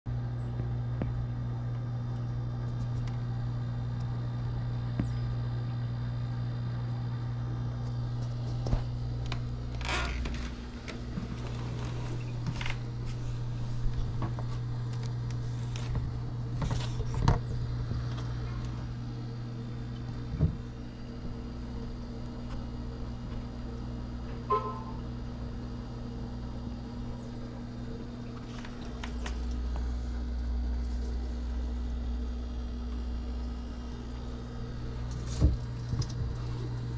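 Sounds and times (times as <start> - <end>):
low electrical hum: 0.1 - 36.9.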